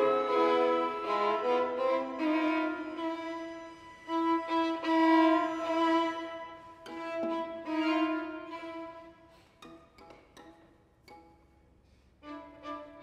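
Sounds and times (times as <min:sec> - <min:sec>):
string quartet bowed notes: 0:00.0 - 0:13.0.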